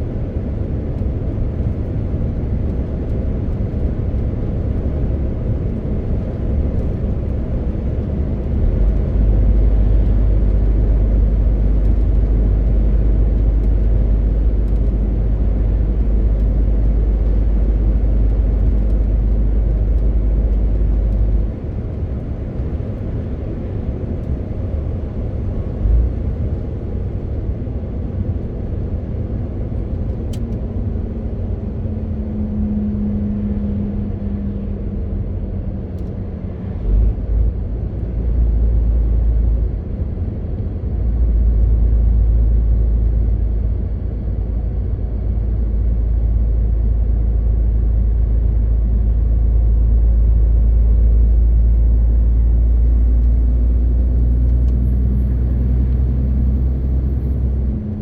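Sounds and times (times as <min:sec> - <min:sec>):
road noise: 0:00.0 - 0:58.0
truck diesel engine: 0:00.0 - 0:58.0.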